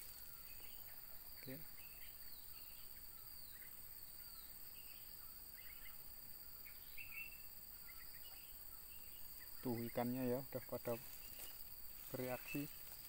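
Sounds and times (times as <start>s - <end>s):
bird chirps: 0.0s - 13.0s
high-pitched insect chorus: 0.0s - 13.0s.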